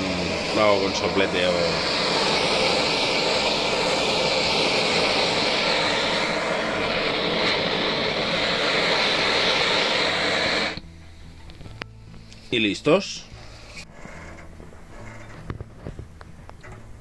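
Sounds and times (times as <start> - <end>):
blowtorch flame hissing: 0.0 - 14.1.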